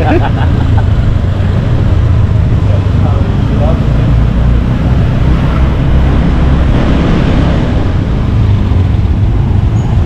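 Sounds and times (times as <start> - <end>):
motorcycle engine running: 0.0 - 10.0
road noise: 0.0 - 10.0
wind rumbling on microphone: 0.0 - 10.0.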